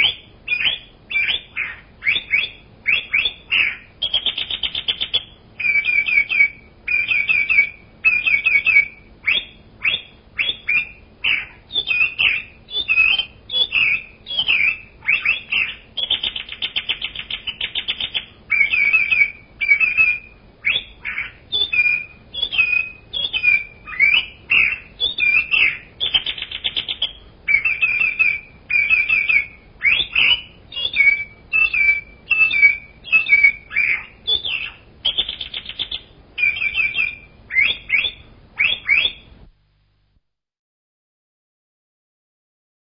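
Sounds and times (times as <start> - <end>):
birds calling and trilling: 0.0 - 39.4.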